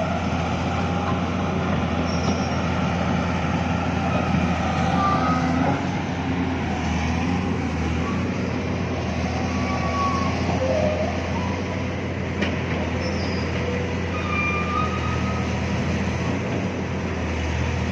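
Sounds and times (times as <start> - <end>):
excavator diesel engine: 0.0 - 17.9.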